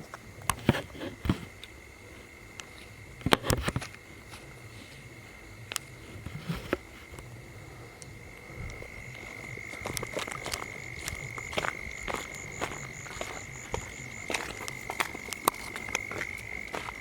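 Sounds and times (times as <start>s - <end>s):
frogs croaking: 0.0s - 17.0s
steady high-pitched whine: 0.0s - 17.0s.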